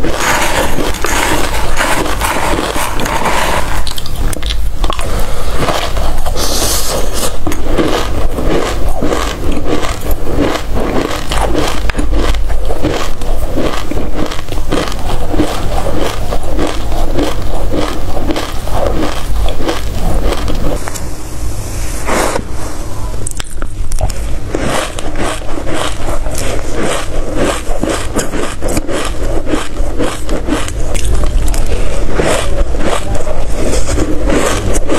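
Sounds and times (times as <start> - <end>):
chewing crunchy seeds: 0.0 - 21.0, 23.3 - 34.9.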